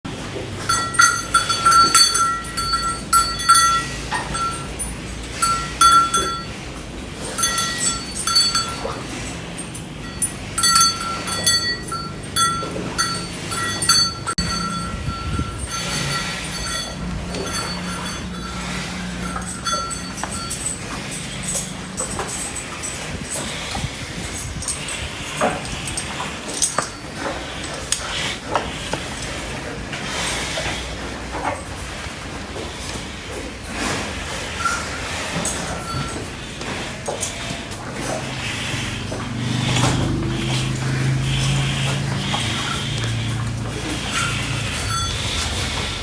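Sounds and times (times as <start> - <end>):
metal cattle bell clanking: 0.4 - 31.9, 33.7 - 46.0.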